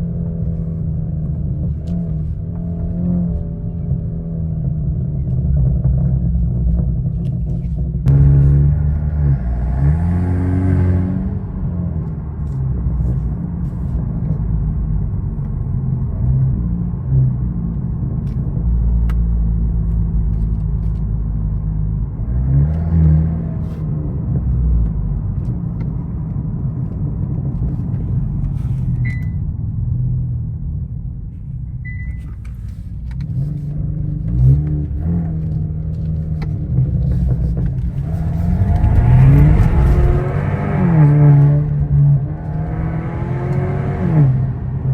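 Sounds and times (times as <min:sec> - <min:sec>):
car engine accelerating: 0:00.0 - 0:44.9.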